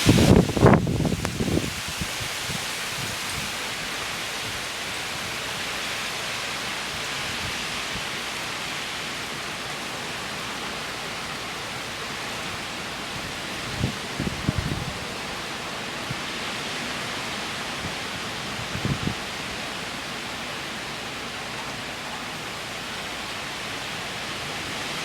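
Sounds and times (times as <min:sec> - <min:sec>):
heavy rain driven by wind: 0:00.0 - 0:25.0.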